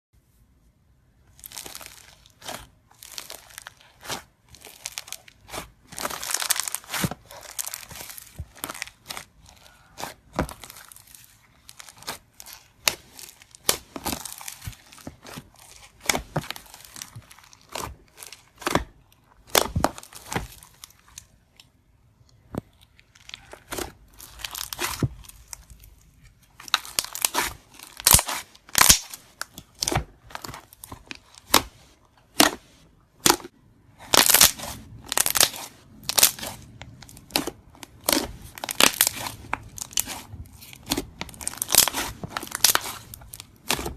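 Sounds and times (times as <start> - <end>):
crunchy slime crackling: 1.2 - 43.9.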